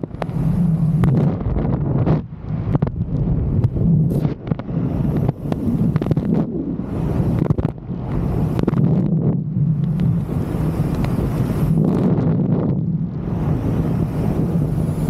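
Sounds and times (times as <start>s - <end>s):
sharp wind pops: 0.0s - 15.0s
wind buffeting microphone: 0.0s - 15.0s.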